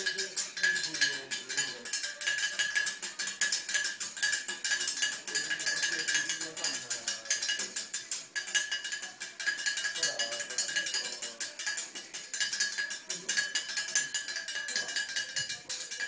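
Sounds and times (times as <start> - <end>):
pinwheel clattering: 0.0 - 16.0.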